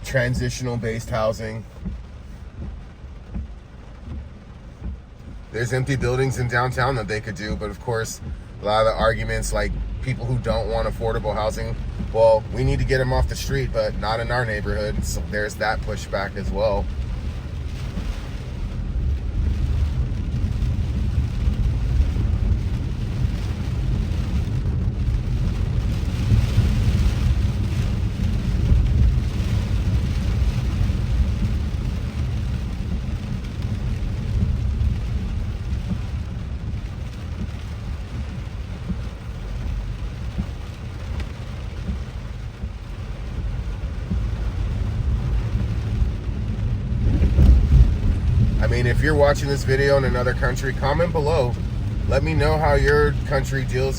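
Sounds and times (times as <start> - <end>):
car driving rumble: 0.0 - 53.9
rain hiss: 0.0 - 53.9
wet road noise: 0.0 - 53.9.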